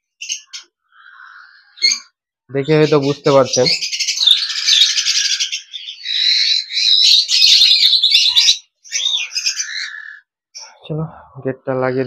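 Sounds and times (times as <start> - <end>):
parrots chirping and whistling: 0.1 - 10.8.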